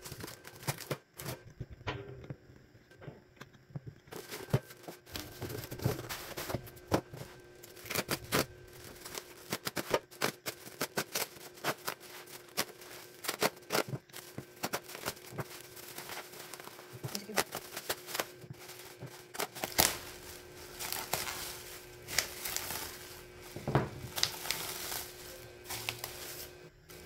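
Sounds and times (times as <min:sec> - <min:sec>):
bubble wrap crinkling and snapping: 0:00.0 - 0:01.4, 0:04.1 - 0:27.0.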